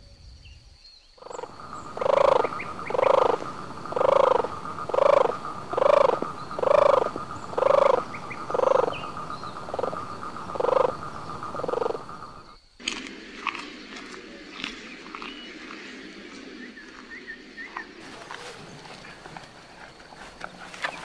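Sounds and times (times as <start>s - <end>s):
faint chirps: 0.0s - 21.0s
animal calling: 1.2s - 21.0s
steady background hum: 1.2s - 21.0s.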